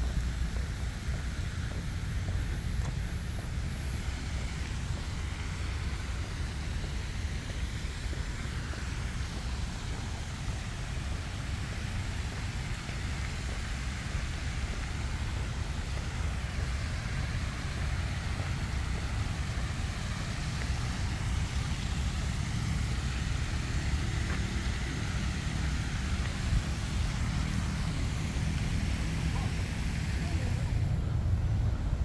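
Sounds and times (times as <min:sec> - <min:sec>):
distant road traffic rumble: 0:00.0 - 0:32.0
faint outdoor hiss: 0:00.0 - 0:32.0.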